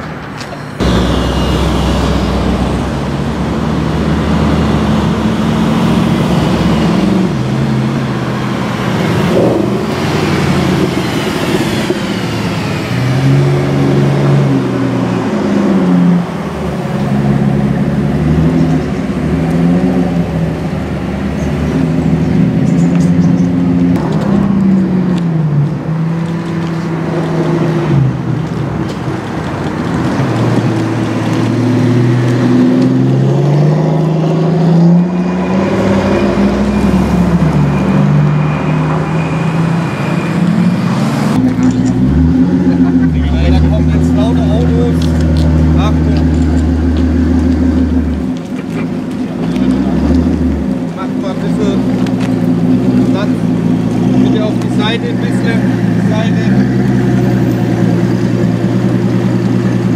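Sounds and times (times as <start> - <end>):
car engines driving past: 0.0 - 59.9.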